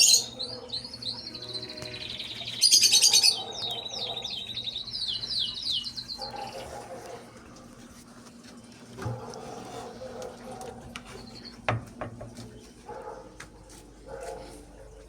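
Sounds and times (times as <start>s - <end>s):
small cage birds chirping: 0.0s - 7.6s, 8.4s - 15.0s.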